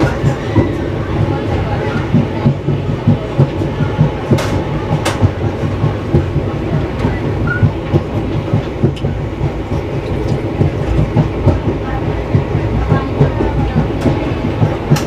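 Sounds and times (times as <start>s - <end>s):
train rumble: 0.0s - 15.0s
train wheels clattering on track: 0.0s - 15.0s.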